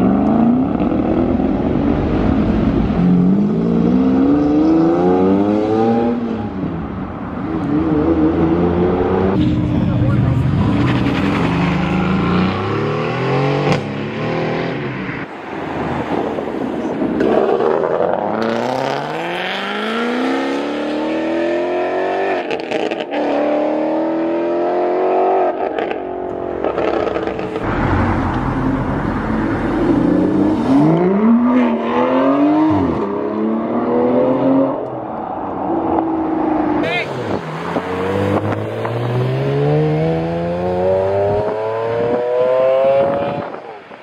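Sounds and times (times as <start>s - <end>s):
car engines accelerating hard: 0.0s - 44.0s.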